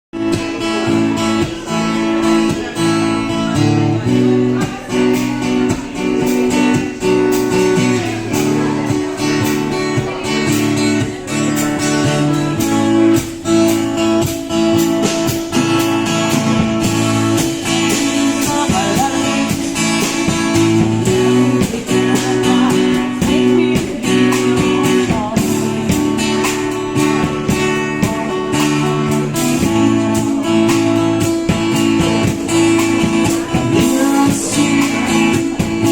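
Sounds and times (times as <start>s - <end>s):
acoustic guitar strumming: 0.2s - 35.9s.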